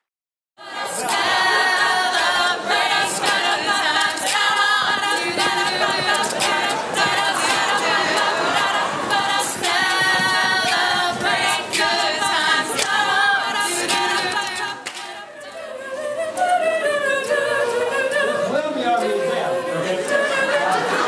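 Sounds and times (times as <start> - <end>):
a cappella group singing in harmony: 0.6 - 21.0.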